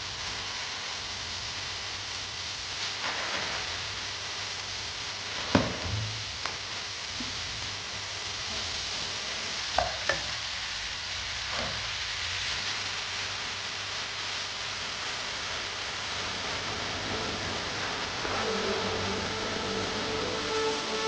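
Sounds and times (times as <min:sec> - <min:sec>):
food sizzling in a hot pan: 0:00.0 - 0:21.0.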